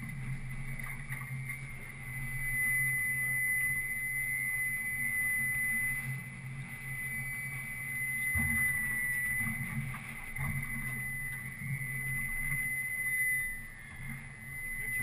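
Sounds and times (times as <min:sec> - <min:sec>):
boat engine humming: 0:00.0 - 0:15.0
high-pitched whine: 0:00.0 - 0:15.0.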